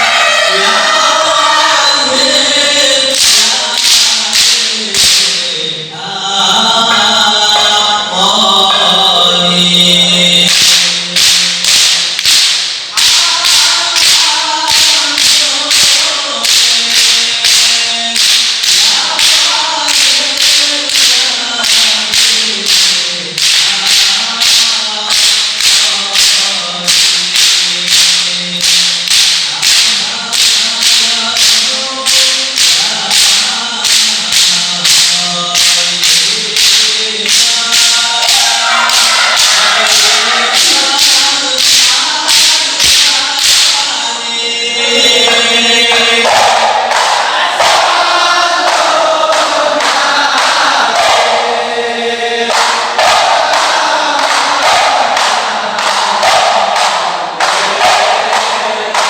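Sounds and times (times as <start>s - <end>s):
male voices singing together: 0.0s - 59.0s
frame drums beating: 2.4s - 5.6s, 8.7s - 59.0s.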